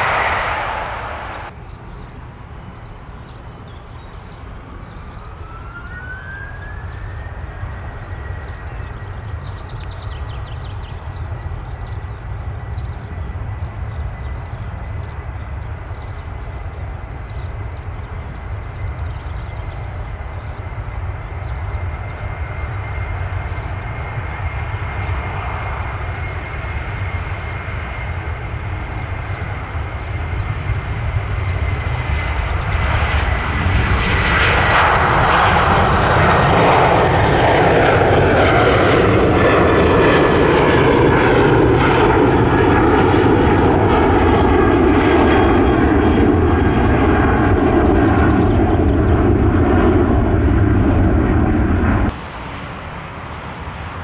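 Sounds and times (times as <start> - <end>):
high jet engine whine: 0.0 - 54.0
jet engines rumbling: 0.0 - 54.0.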